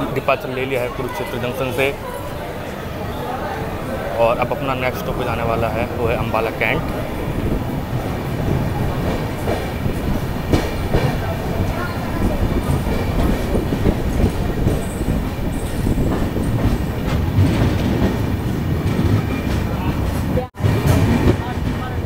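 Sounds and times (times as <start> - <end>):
passenger train rumbling: 0.0 - 22.0
wheels clacking over rails: 0.0 - 22.0.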